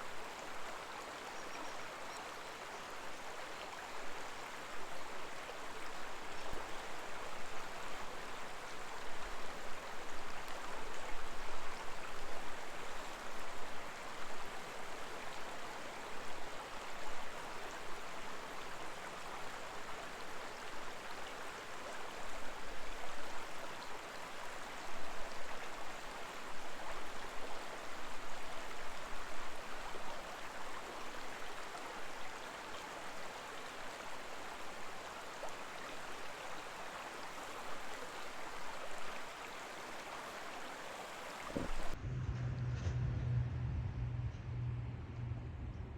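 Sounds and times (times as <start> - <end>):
river water flowing: 0.0 - 42.0.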